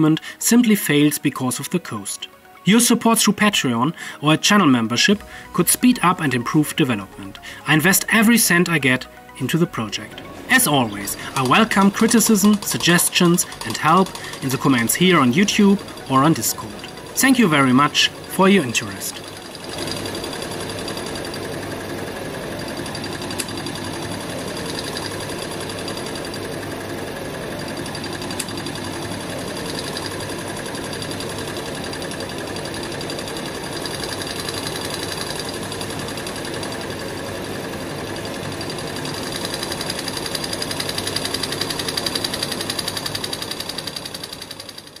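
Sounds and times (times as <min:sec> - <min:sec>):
stirling engine running: 0:05.1 - 0:45.0.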